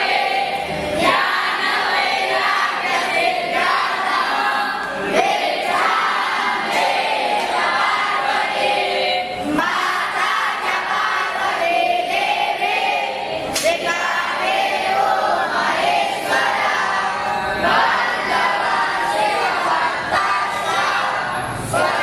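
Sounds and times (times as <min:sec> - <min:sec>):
boys singing in unison: 0:00.0 - 0:22.0.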